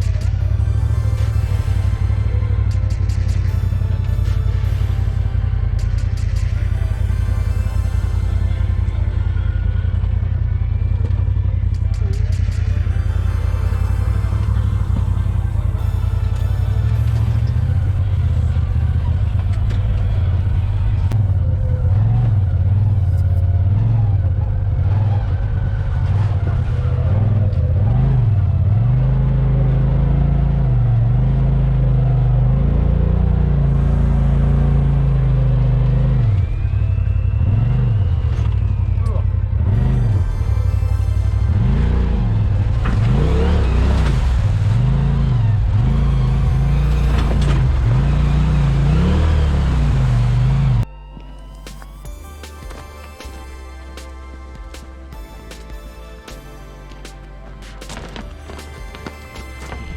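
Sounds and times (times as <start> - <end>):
side-by-side engine revving: 0.0 - 50.9, 57.6 - 59.9.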